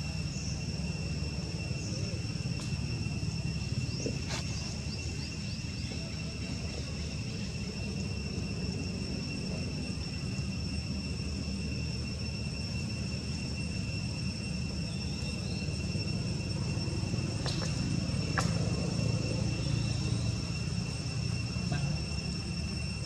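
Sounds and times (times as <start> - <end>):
constant low rumble: 0.0 - 23.0
high-pitched insect drone: 0.0 - 23.0.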